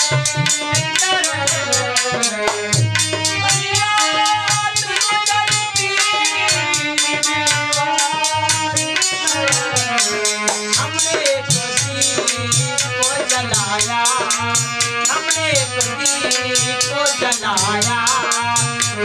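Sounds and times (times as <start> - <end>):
hand drum: 0.0 - 19.0
harmonium: 0.0 - 19.0
man singing: 0.0 - 19.0
rattling percussion: 0.0 - 19.0.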